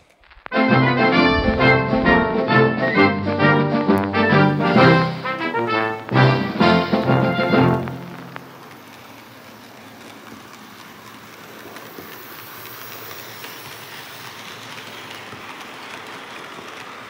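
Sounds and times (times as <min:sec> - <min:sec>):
model train rolling rattle: 0:00.8 - 0:17.0.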